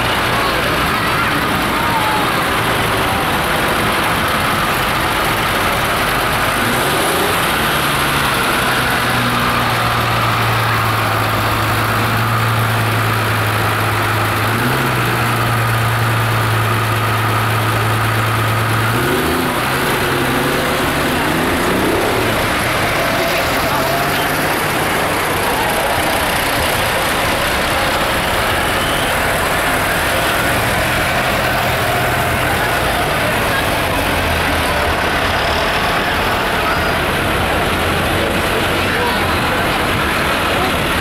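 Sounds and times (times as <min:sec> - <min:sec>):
tractor engines running: 0:00.0 - 0:41.0.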